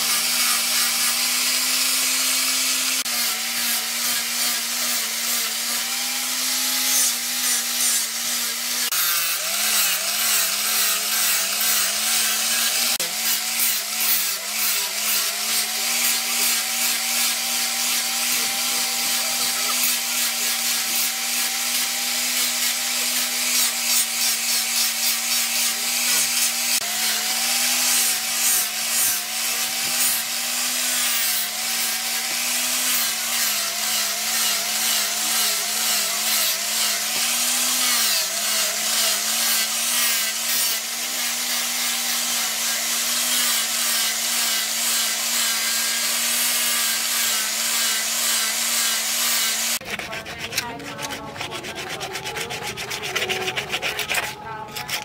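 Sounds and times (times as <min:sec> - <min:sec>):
angle grinder motor whine: 0:00.0 - 0:49.8.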